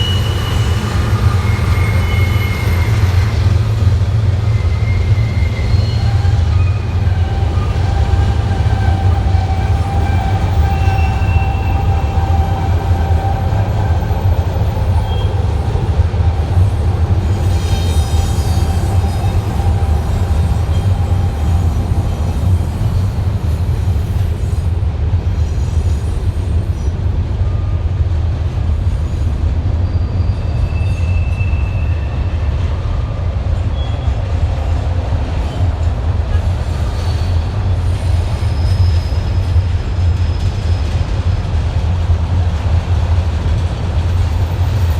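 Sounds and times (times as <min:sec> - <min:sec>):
train wheels squealing: 0:00.0 - 0:28.0, 0:28.8 - 0:42.0, 0:42.8 - 0:44.9
freight train rumbling past: 0:00.0 - 0:44.9.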